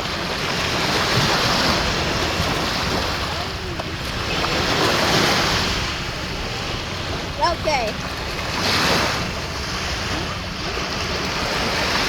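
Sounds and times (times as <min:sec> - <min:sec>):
sea surf washing onto beach: 0:00.0 - 0:12.0
wind buffeting microphone: 0:00.0 - 0:12.0.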